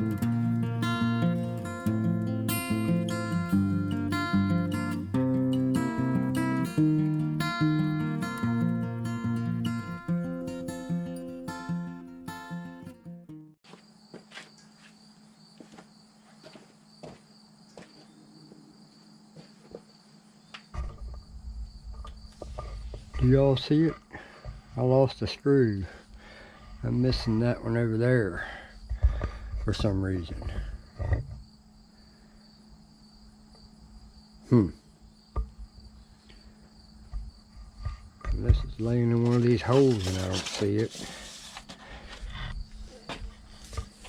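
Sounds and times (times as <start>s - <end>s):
crickets trilling: 0.0s - 12.4s, 13.7s - 44.0s.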